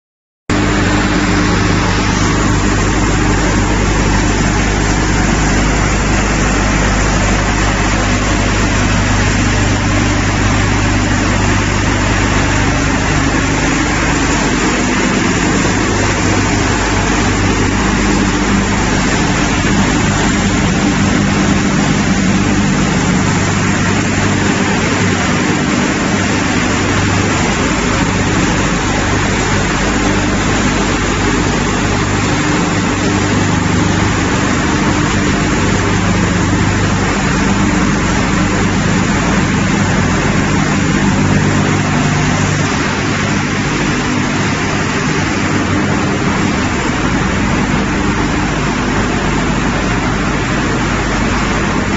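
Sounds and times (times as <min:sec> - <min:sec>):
low electric hum: 0:00.5 - 0:51.9
machinery running: 0:00.5 - 0:51.9.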